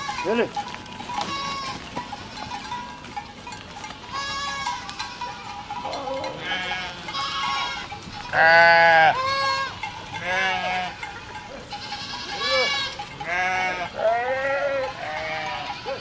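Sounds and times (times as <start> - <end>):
goats bleating: 0.0 - 3.1, 3.8 - 16.0.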